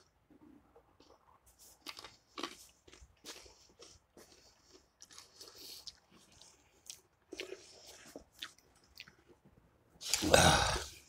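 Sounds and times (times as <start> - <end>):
crunching and chewing snack: 0.0 - 11.0.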